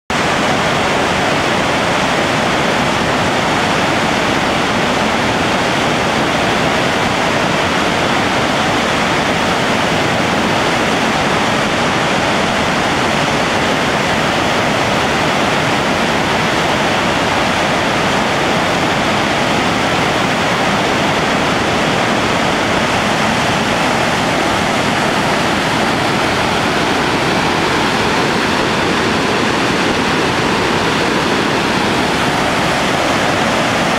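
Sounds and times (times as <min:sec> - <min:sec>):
river rushing through rapids: 0:00.1 - 0:33.9.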